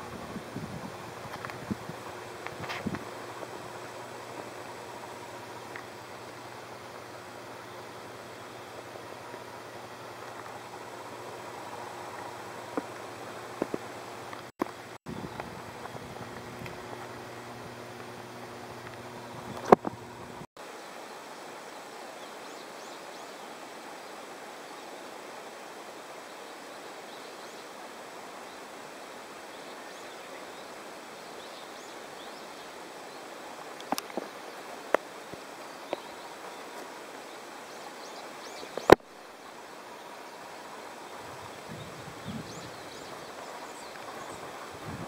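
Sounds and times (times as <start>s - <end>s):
outdoor background hiss: 0.0s - 45.0s.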